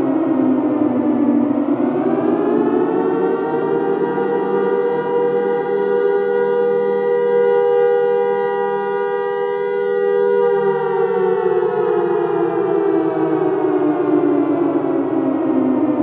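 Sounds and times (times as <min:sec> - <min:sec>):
air raid siren: 0:00.0 - 0:16.0.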